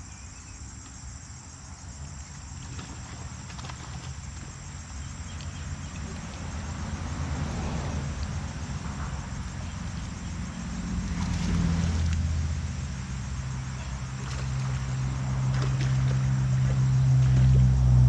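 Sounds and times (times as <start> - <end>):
insects trilling: 0.0 - 18.0
low motor hum: 2.8 - 18.0.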